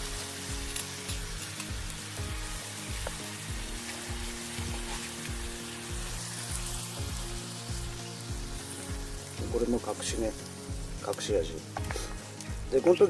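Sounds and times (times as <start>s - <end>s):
vegetables sizzling in butter: 0.0s - 13.0s.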